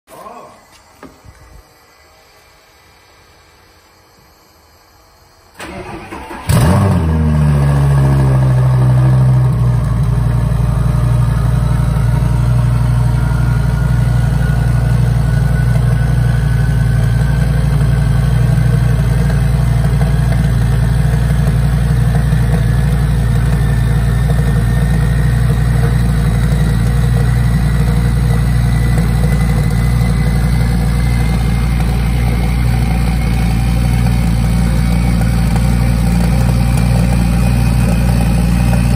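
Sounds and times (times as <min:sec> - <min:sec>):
car engine revving then idling: 0:05.5 - 0:38.9.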